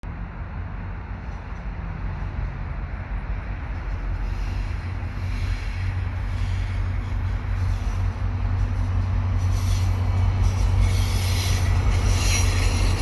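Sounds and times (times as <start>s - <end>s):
diesel locomotive engine hum: 0.0s - 13.0s
train rail noise: 0.0s - 13.0s.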